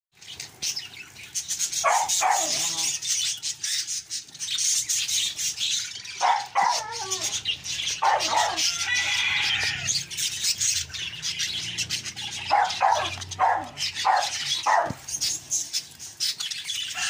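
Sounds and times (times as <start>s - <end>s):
budgerigars chattering: 0.2s - 17.0s
loud falling bird calls: 0.2s - 17.0s.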